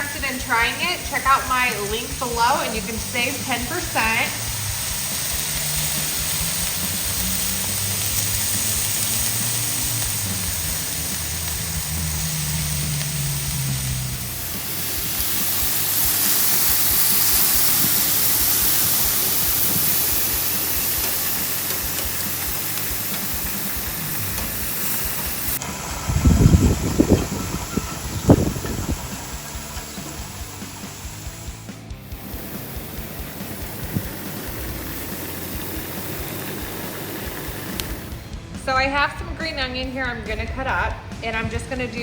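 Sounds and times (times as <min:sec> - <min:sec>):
steak sizzling on a griddle: 0:00.0 - 0:38.2.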